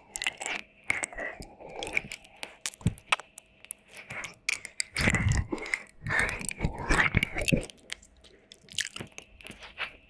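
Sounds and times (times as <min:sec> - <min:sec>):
wet mouth smacking clicks: 0:00.1 - 0:09.6.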